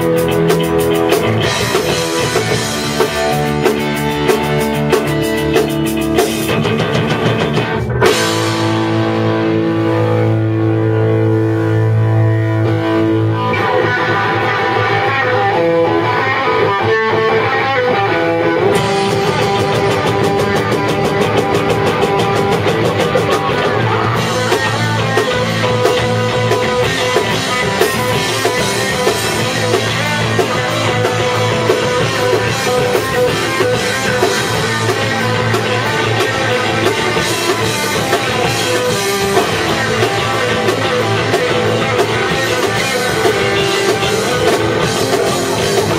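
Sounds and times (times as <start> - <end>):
drum kit cymbal beat: 0.0 - 15.3, 18.6 - 45.9
bass guitar: 0.0 - 45.9
electric guitar: 0.0 - 45.9.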